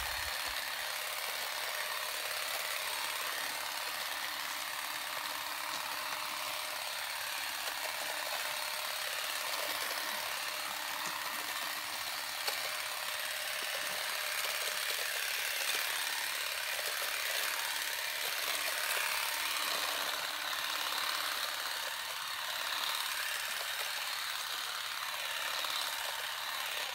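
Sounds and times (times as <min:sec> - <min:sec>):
battery shrub shears buzzing: 0:00.0 - 0:26.9.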